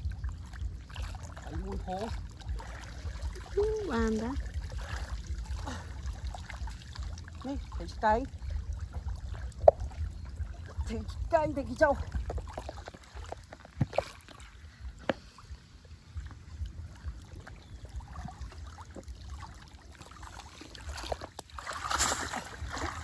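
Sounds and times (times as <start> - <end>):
low rumble: 0.0 - 23.0
water sloshing and splashing: 0.0 - 23.0.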